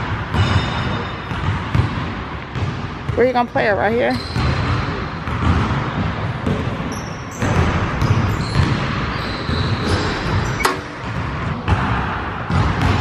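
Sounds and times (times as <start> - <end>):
basketball bouncing on wooden floor: 0.0 - 13.0.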